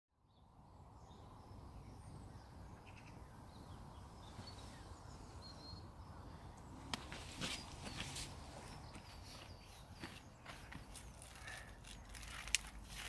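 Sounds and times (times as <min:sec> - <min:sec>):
small birds chirping faintly: 0:00.2 - 0:13.0.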